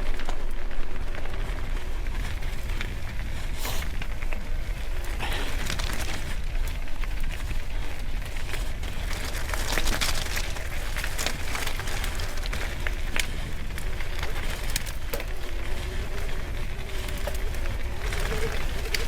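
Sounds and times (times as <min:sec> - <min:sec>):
bike clicks and rattles: 0:00.0 - 0:19.0
bike tyres crunching on stones: 0:00.0 - 0:19.0
wind rumble on microphone: 0:00.0 - 0:19.0.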